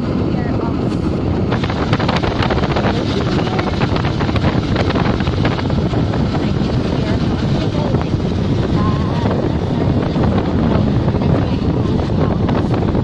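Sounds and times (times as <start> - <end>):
motorcycle engine and road rumble: 0.0 - 13.0
wind buffeting microphone: 0.0 - 13.0.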